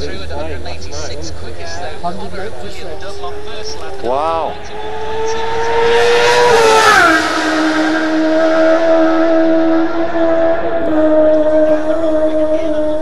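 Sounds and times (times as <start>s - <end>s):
motorcycle passing at high speed: 2.2s - 13.0s.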